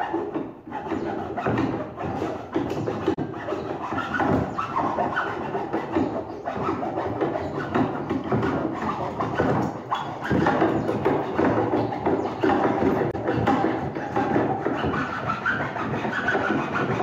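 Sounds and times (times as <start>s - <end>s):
hand saw cutting wood: 0.0s - 17.0s.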